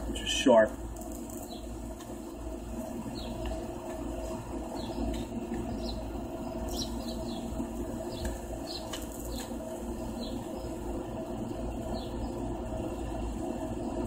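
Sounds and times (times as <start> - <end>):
steady low hum: 0.0 - 14.0
small birds chirping: 0.2 - 14.0.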